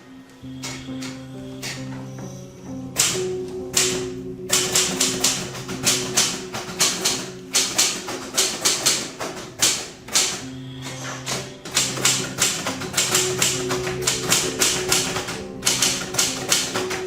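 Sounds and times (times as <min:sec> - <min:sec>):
soft music with low notes: 0:00.0 - 0:17.0
typewriter keys clacking: 0:03.0 - 0:17.0.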